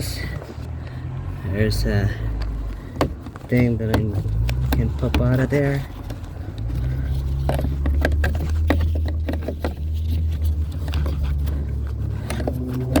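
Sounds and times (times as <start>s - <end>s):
plastic clicks and scraping: 2.3s - 13.0s.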